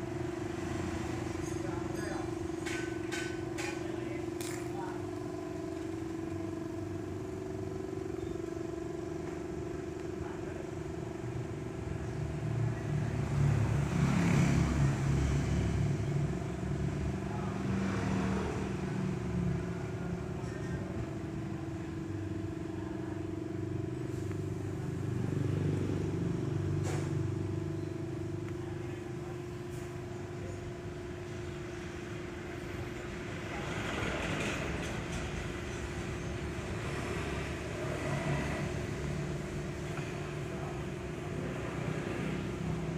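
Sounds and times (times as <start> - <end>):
steady engine hum: 0.0 - 42.9
vehicles passing: 0.0 - 42.9.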